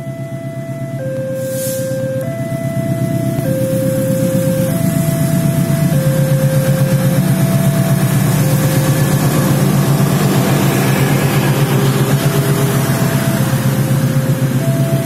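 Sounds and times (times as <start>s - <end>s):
diesel locomotive engine: 0.0s - 15.0s
level crossing warning signal: 0.0s - 15.0s
train carriages rolling: 2.7s - 15.0s.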